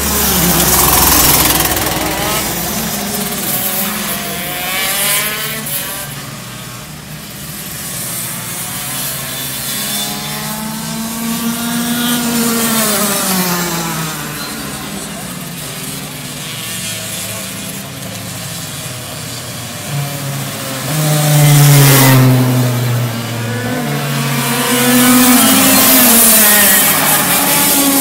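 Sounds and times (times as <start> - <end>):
racing kart engines revving: 0.0 - 28.0.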